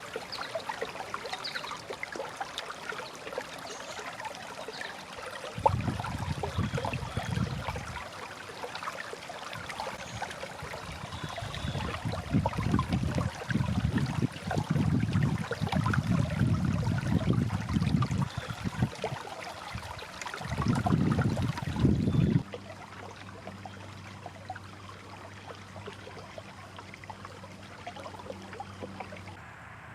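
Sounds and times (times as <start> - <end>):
stream trickling and babbling: 0.0 - 29.5.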